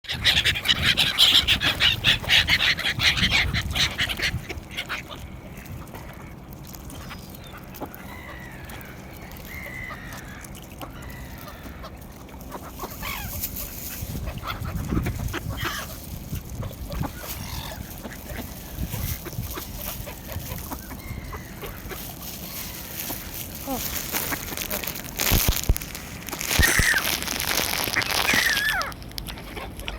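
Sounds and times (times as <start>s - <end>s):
flock of birds calling: 0.0s - 29.9s.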